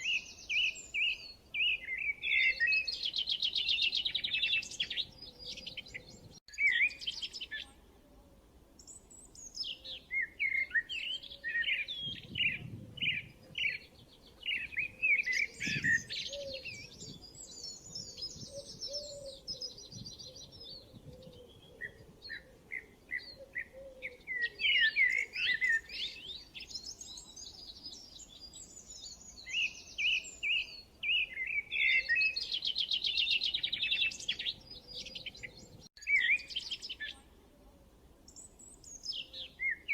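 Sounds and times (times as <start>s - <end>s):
birds chirping and trilling: 0.0s - 7.8s, 8.8s - 37.3s, 38.3s - 39.9s.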